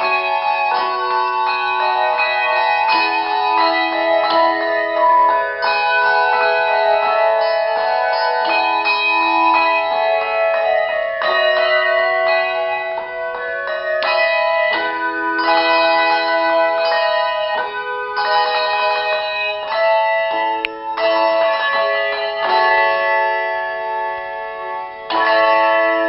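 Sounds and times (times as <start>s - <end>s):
handbells playing chords: 0.0s - 26.0s.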